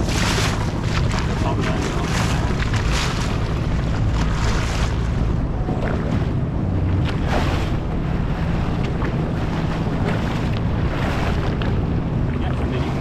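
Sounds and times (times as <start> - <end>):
boat motor running: 0.0 - 13.0
water splashing against hull: 0.0 - 13.0
wind buffeting microphone: 0.0 - 13.0.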